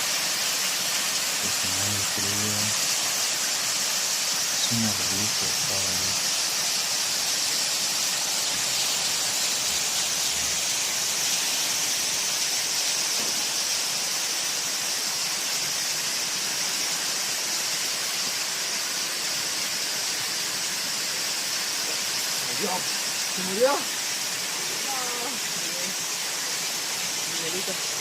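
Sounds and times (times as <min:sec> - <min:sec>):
waterfall rushing: 0:00.0 - 0:15.5, 0:16.2 - 0:28.0.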